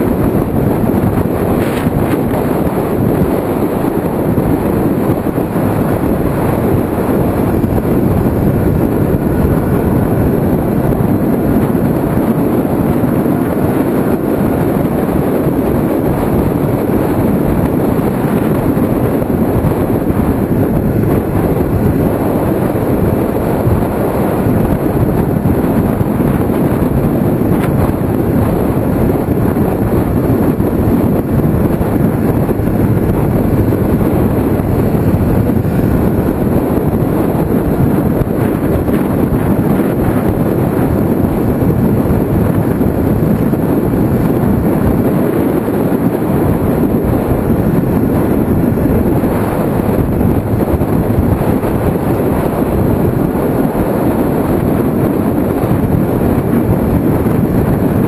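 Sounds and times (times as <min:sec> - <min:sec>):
motorcycle engine at speed: 0:00.0 - 0:58.0
wind rushing: 0:00.0 - 0:58.0.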